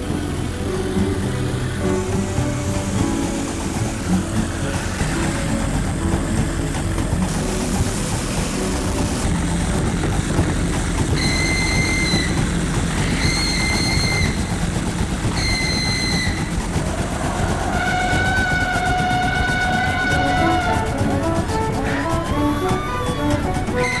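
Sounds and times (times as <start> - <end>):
held high tones: 0.0 - 14.6, 15.3 - 24.0
hydraulic machinery rumbling: 0.0 - 24.0.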